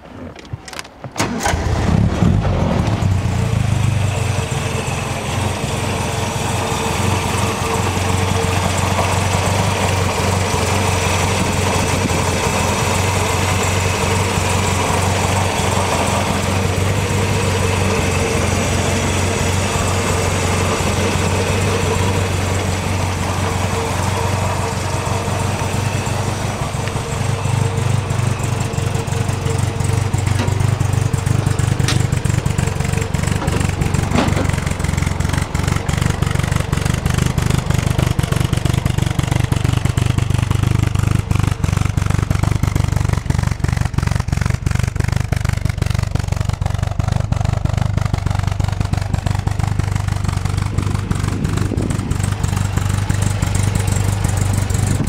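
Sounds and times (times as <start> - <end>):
car engine running steadily: 1.2 - 55.0.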